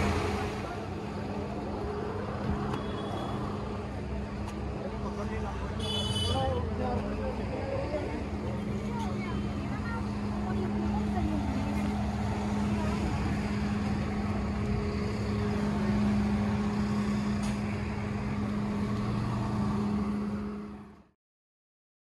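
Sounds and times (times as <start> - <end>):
engine-like mechanical hum: 0.0 - 21.1
street traffic: 0.0 - 21.2.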